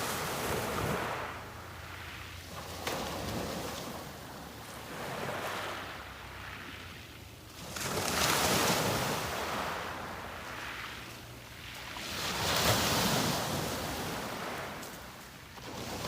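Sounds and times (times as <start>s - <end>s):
sea waves breaking: 0.0s - 16.0s.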